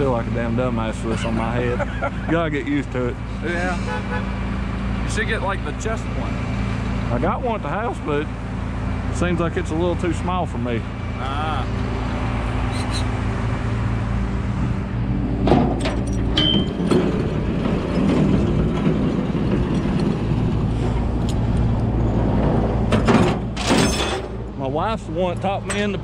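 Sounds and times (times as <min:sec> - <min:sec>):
tow truck engine running: 0:00.0 - 0:26.0.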